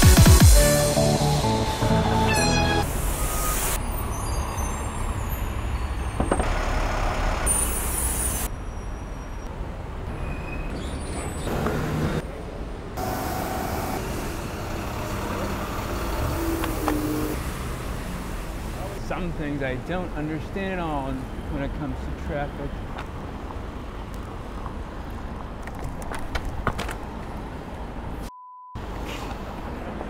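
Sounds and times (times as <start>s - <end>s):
heavy street traffic rumble: 0.1s - 30.0s.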